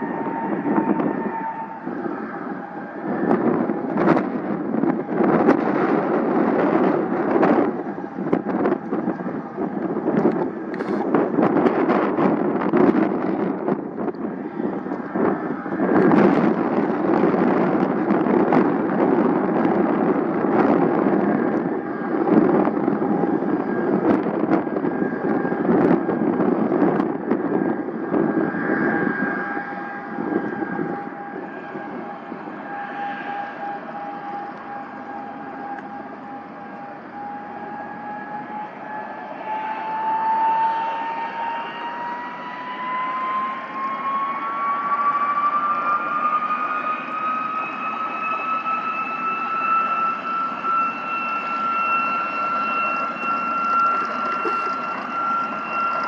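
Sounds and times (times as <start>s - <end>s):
wind buffeting microphone: 0.0s - 39.0s, 41.4s - 56.0s
aircraft engine noise: 0.0s - 56.0s
jet whine rising in pitch: 0.0s - 56.0s.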